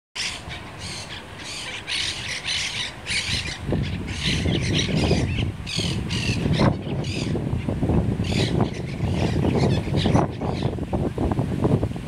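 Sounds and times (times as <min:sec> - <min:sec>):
parakeets squawking harshly: 0:00.2 - 0:07.4, 0:08.2 - 0:10.8.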